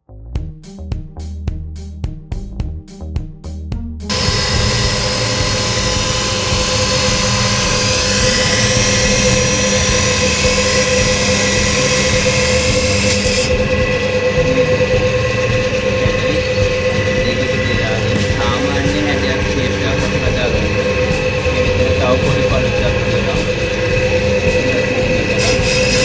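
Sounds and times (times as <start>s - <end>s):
machine rushing noise: 4.1s - 26.0s
machine whine: 4.1s - 26.0s.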